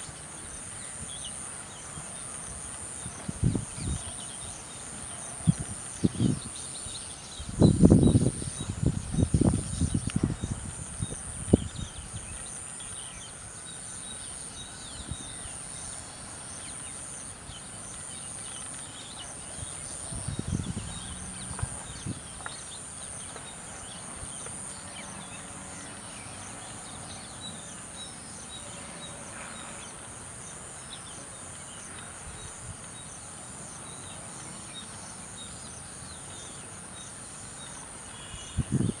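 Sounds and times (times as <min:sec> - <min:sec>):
insect chirping: 0:00.0 - 0:39.0.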